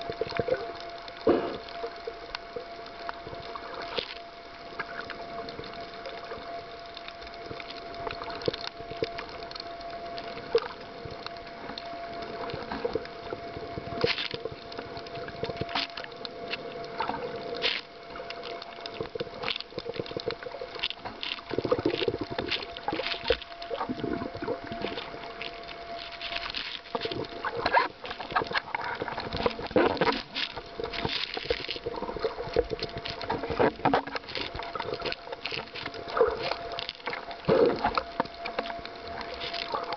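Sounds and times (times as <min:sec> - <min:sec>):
faint steady tone: 0:00.0 - 0:39.9
underwater clicks and crackles: 0:00.0 - 0:39.9
underwater water sloshing and bubbling: 0:00.0 - 0:39.9.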